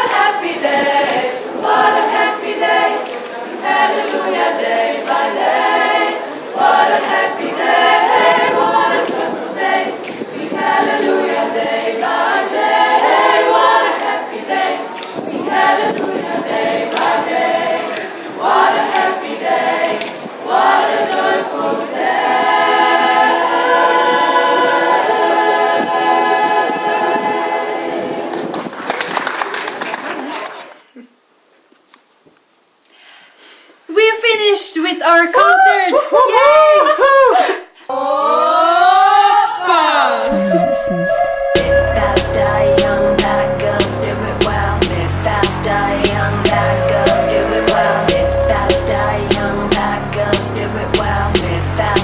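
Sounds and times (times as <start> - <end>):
a cappella group singing: 0.0 - 28.5, 37.9 - 52.0.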